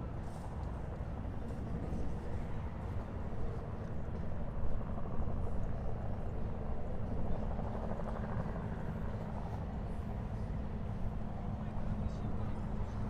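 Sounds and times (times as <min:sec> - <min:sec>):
helicopter flying: 0:00.0 - 0:13.0.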